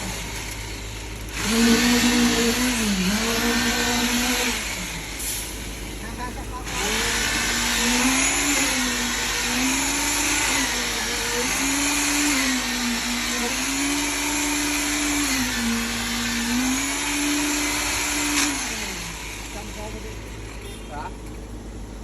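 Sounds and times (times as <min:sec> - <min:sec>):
motor whine shifting in pitch: 0:00.0 - 0:22.0.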